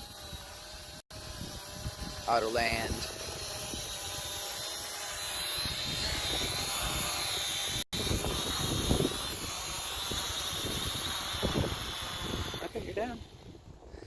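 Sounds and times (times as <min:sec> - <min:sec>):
drone propellers whining: 0:00.0 - 0:13.7
wind buffeting microphone: 0:00.1 - 0:04.6, 0:05.6 - 0:14.0.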